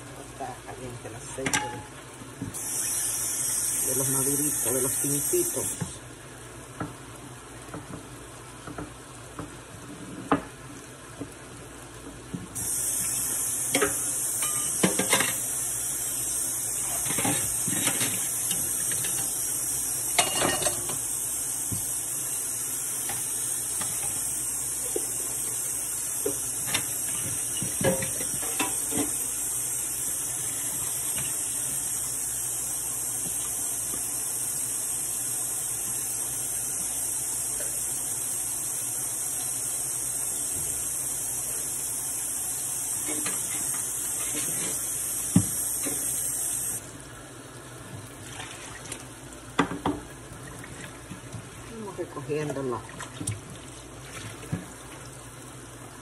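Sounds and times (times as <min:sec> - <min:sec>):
food sizzling in frying pan: 0:00.0 - 0:48.2, 0:49.0 - 0:52.7.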